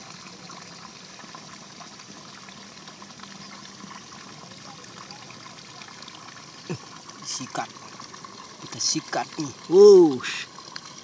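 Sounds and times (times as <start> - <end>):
water trickling in a ditch: 0.0 - 11.0.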